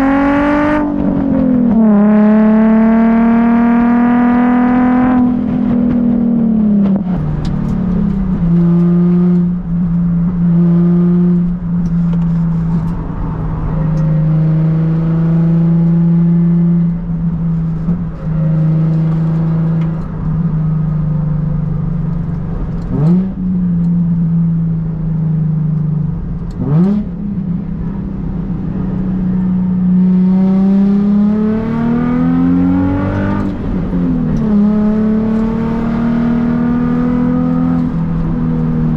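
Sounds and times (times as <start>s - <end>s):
car engine revving through exhaust: 0.0s - 38.9s.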